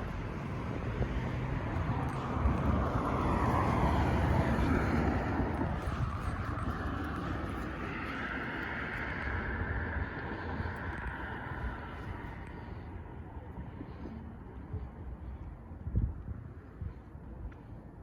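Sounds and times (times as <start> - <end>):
passing vehicle rumble: 0.0 - 16.5.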